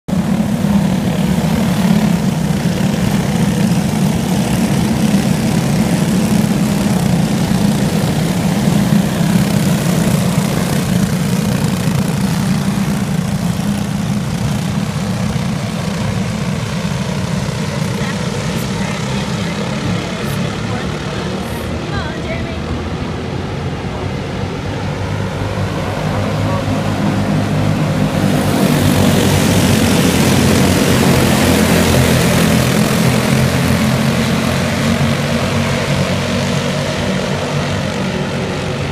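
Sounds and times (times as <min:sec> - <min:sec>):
go-kart engines droning: 0:00.1 - 0:38.9.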